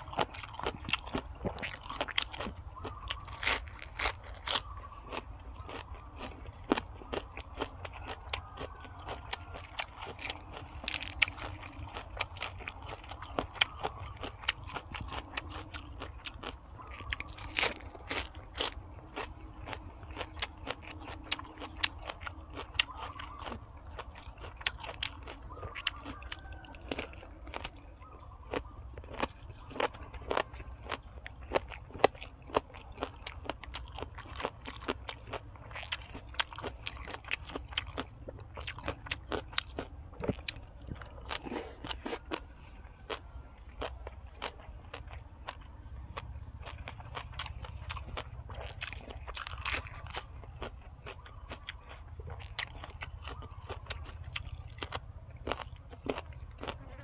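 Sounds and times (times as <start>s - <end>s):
person chewing crisp food: 0.0s - 57.0s.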